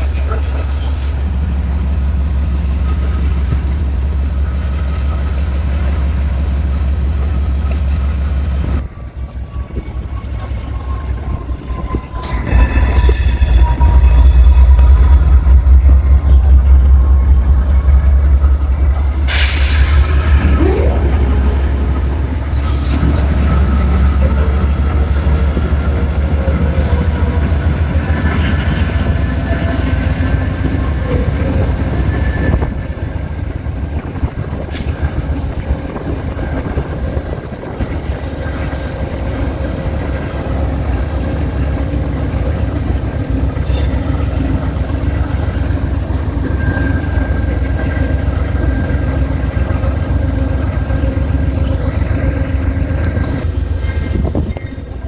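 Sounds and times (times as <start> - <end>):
diesel locomotive rumble: 0.0 - 55.0.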